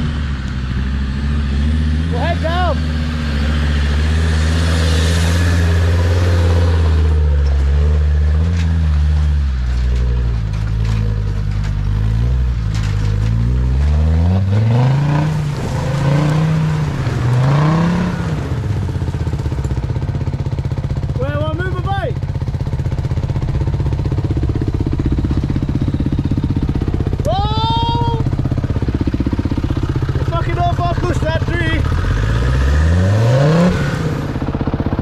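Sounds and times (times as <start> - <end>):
diesel engine working under load: 0.0 - 35.0.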